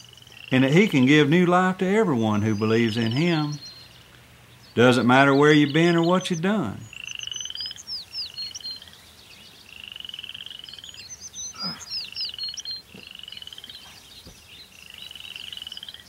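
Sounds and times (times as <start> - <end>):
frogs trilling: 0.0 - 16.0
small birds chirping: 0.0 - 16.0.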